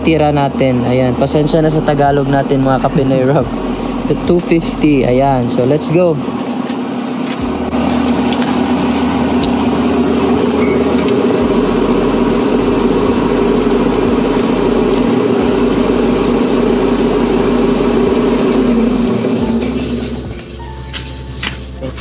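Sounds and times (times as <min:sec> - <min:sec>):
loud mechanical hum: 0:00.0 - 0:22.0.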